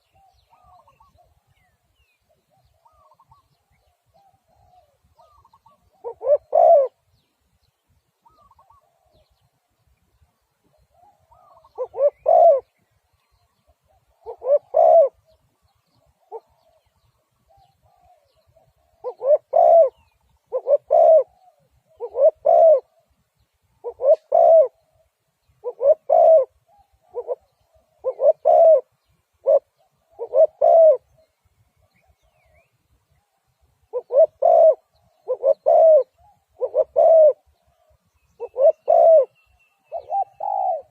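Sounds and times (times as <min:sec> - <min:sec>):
dove cooing: 0:00.0 - 0:01.7, 0:02.3 - 0:07.1, 0:08.2 - 0:09.4, 0:10.7 - 0:12.8, 0:13.6 - 0:32.4, 0:33.8 - 0:40.9.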